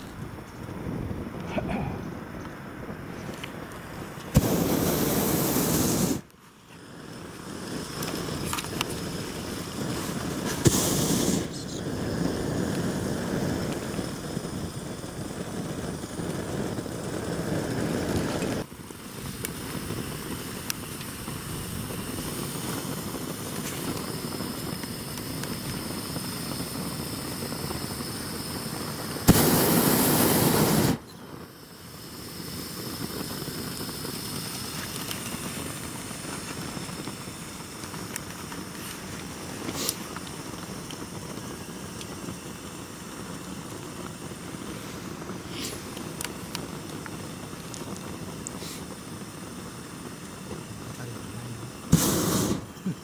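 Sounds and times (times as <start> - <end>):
propane burner blasts: 0.0 - 53.0
steady rushing noise: 0.0 - 53.0.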